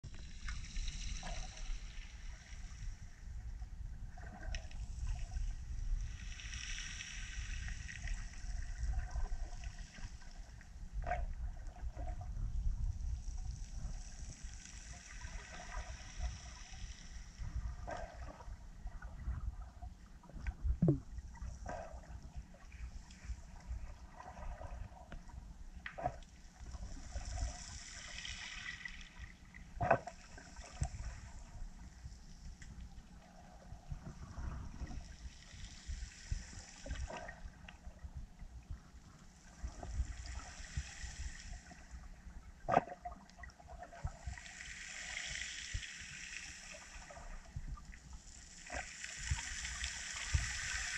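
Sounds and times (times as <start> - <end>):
underwater rumble of moving water: 0.0 - 50.9.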